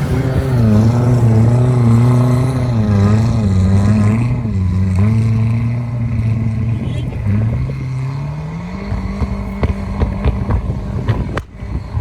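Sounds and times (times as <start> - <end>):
vehicle engine running hard: 0.0 - 12.0.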